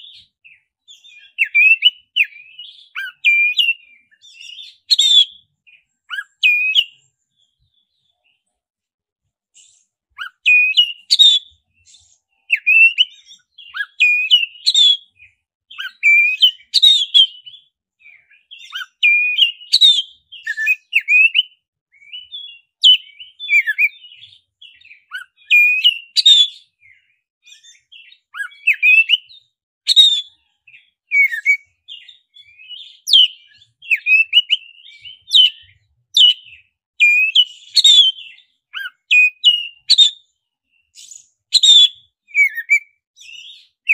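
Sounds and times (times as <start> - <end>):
magpie-robin singing: 0.0 - 8.6, 9.5 - 43.9.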